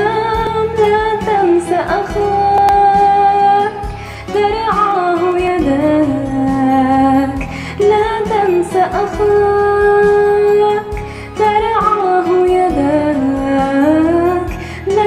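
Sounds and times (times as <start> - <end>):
backing track with beat: 0.0 - 15.0
woman singing wordless melody: 0.0 - 15.0.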